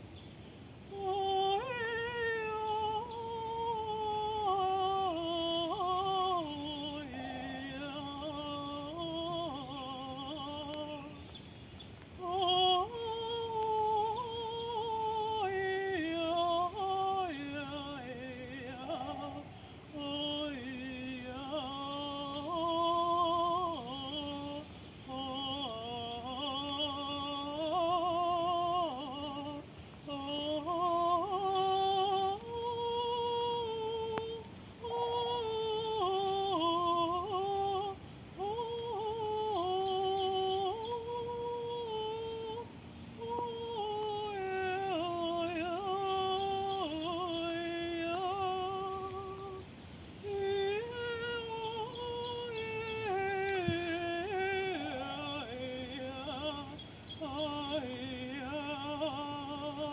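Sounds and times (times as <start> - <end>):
woman singing wordless tones: 0.0 - 59.9.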